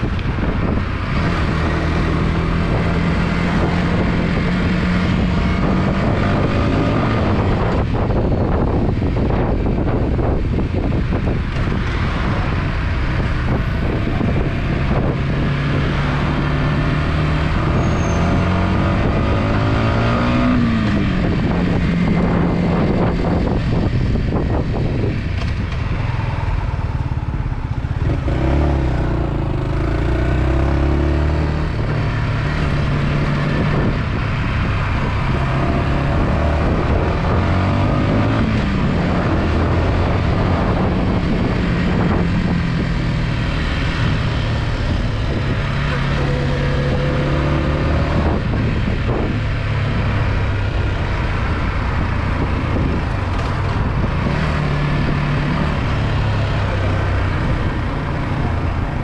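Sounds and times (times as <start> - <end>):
wind rushing past microphone: 0.0 - 59.0.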